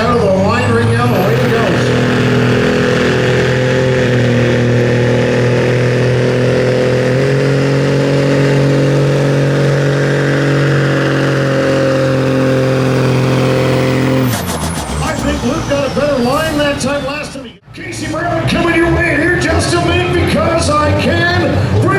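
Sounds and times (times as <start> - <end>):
engine running loud: 0.0 - 17.6, 18.2 - 21.9.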